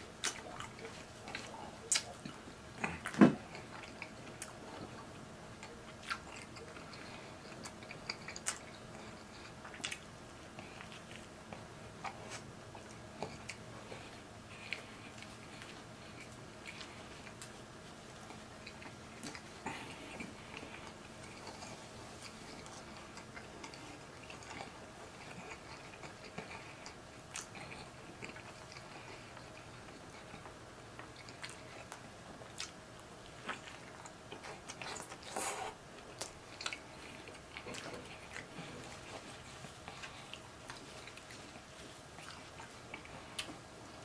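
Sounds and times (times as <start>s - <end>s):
person chewing a sandwich: 0.0s - 44.0s.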